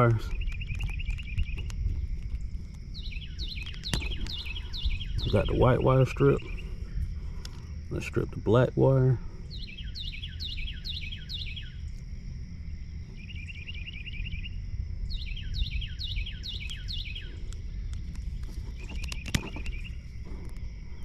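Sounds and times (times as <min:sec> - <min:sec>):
birds chirping and trilling: 0:00.0 - 0:21.0
low outdoor rumble: 0:00.0 - 0:21.0.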